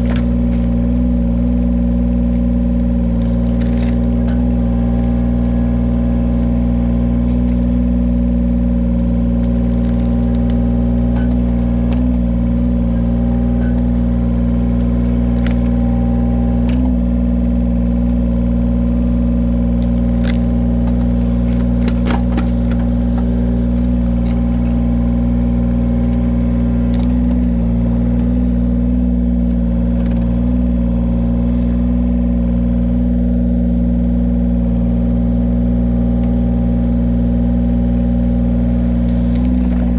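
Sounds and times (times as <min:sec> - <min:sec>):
wood splitter engine running: 0:00.0 - 0:39.9.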